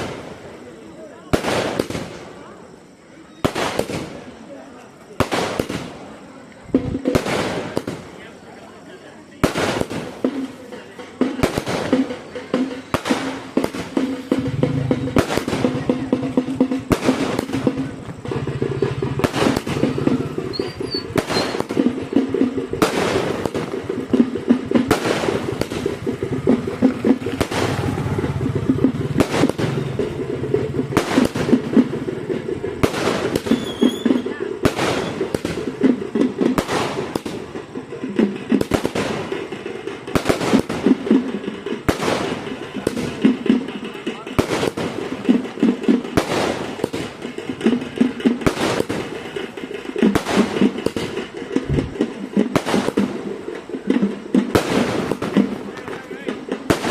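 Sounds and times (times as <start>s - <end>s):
firework bangs: 0.0s - 56.9s
firework crackle: 0.0s - 56.9s.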